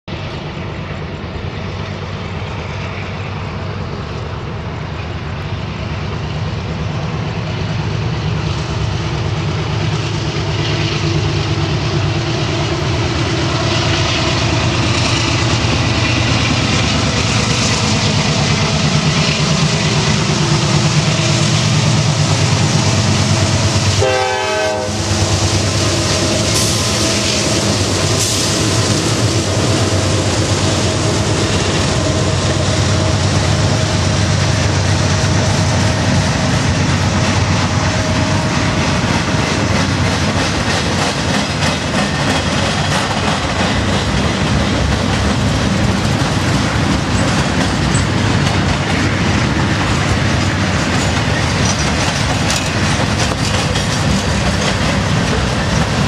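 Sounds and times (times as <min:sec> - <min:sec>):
diesel locomotive engines droning: 0:00.1 - 0:56.0.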